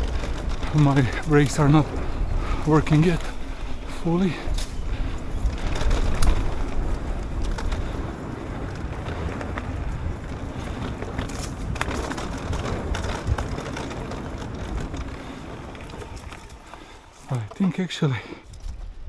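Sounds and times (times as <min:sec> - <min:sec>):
wind on microphone: 0:00.0 - 0:17.2
bike rattling clicks: 0:00.0 - 0:18.9
tyres on dirt: 0:00.0 - 0:19.0.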